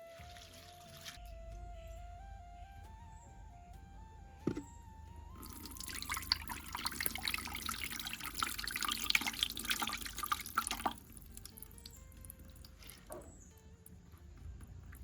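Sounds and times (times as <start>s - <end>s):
water splashing and trickling: 0.0s - 2.1s, 4.4s - 15.0s.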